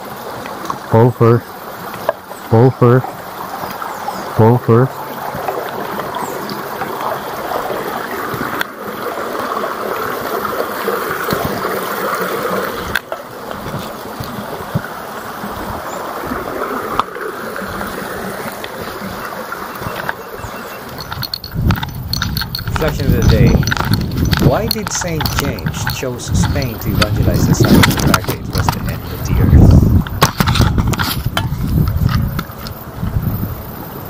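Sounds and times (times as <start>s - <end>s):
stream babbling: 0.0s - 34.0s.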